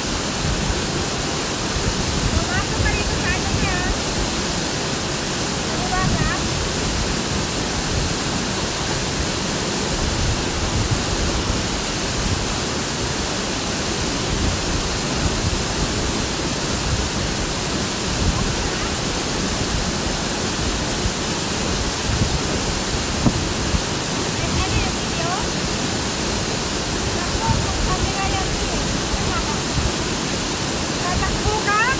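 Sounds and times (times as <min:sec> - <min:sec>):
waterfall pouring: 0:00.0 - 0:31.9.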